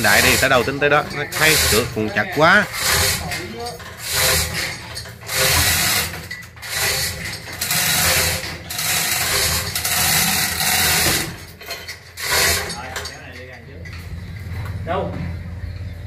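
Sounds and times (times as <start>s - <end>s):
steel chains rattling: 0.0s - 14.7s.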